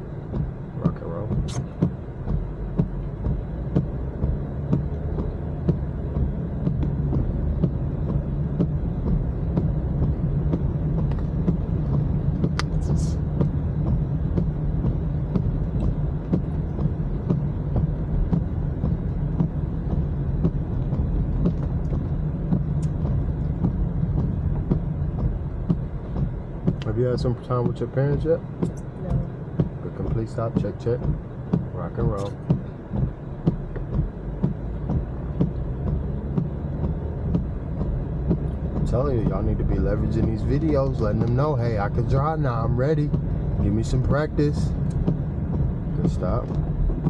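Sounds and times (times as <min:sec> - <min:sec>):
car cabin road and engine rumble: 0:00.0 - 0:47.0.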